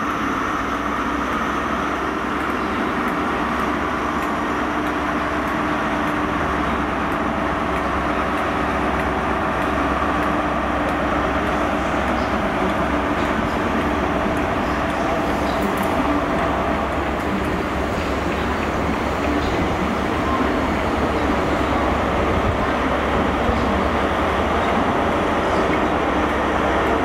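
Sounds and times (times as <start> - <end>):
diesel train engine droning: 0.0 - 27.0
train rumble: 0.0 - 27.0.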